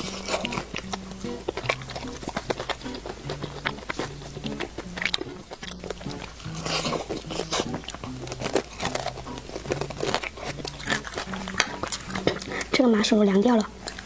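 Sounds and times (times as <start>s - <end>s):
crunchy clicks: 0.0s - 14.0s
person chewing food: 0.0s - 14.0s
soft background music: 0.0s - 14.0s.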